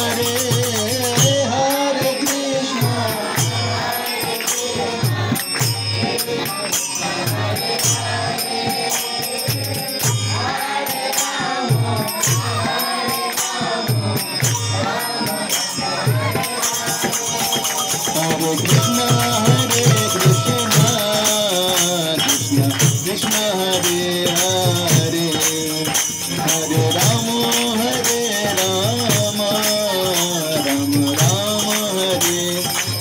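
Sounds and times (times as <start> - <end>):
drum beating: 0.0 - 33.0
hand cymbals clashing: 0.0 - 33.0
man singing into a microphone: 0.0 - 33.0.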